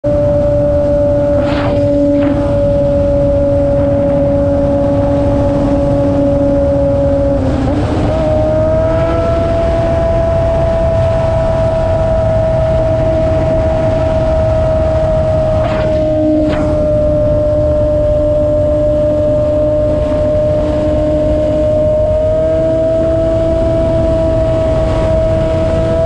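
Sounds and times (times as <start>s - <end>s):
motorcycle engine at high revs: 0.0s - 26.0s
wind rush on microphone: 0.0s - 26.0s.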